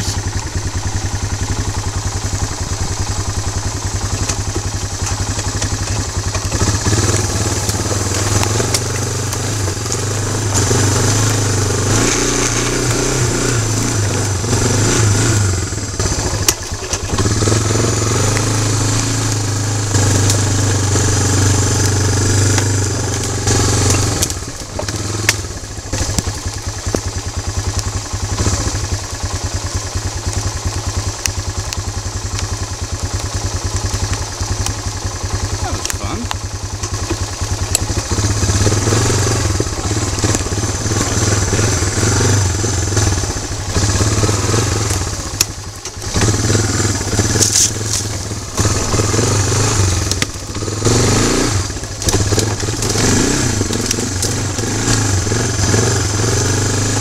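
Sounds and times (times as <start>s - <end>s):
quad bike engine under load: 0.0s - 57.0s.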